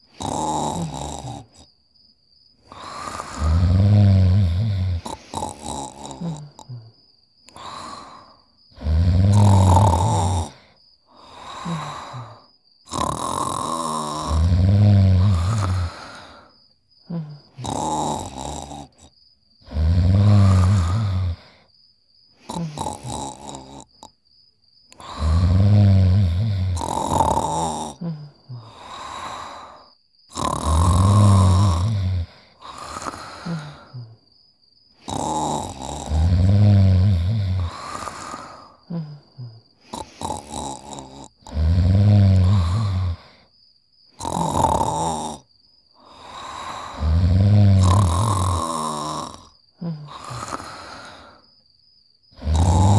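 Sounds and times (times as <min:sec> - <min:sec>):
loud low snores: 0:00.0 - 0:01.7, 0:02.6 - 0:21.7, 0:22.3 - 0:24.2, 0:24.9 - 0:34.3, 0:34.9 - 0:43.5, 0:44.1 - 0:51.6, 0:52.3 - 0:52.9
breathy exhales: 0:02.6 - 0:21.7, 0:22.3 - 0:23.9, 0:24.9 - 0:34.2, 0:34.9 - 0:43.6, 0:46.0 - 0:51.6, 0:52.4 - 0:52.9.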